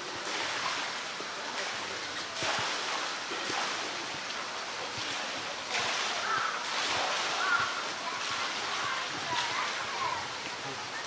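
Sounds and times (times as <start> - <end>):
water lapping and sloshing: 0.0 - 11.0.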